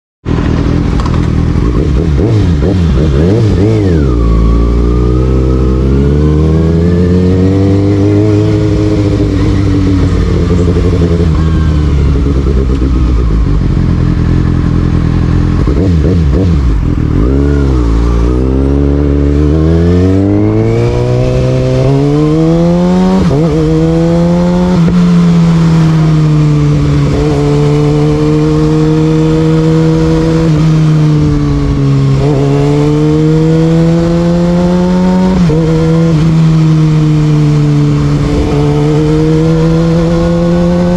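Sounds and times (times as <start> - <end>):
motorcycle engine revving: 0.2 - 40.9.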